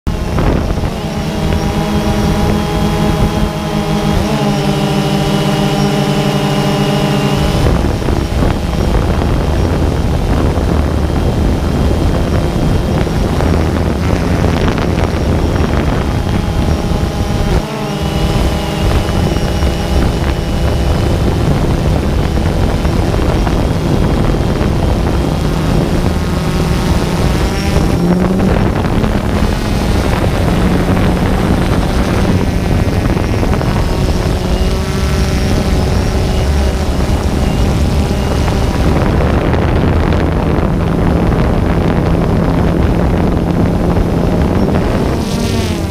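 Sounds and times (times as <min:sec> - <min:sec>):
motor running: 0:00.1 - 0:45.9.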